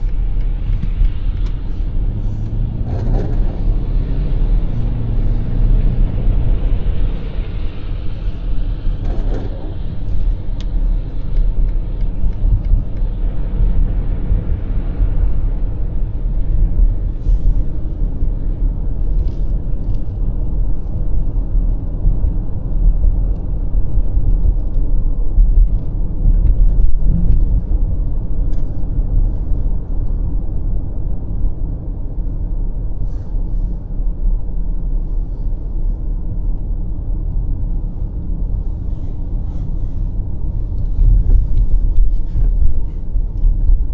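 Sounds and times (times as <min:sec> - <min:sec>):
car road rumble: 0:00.0 - 0:43.9.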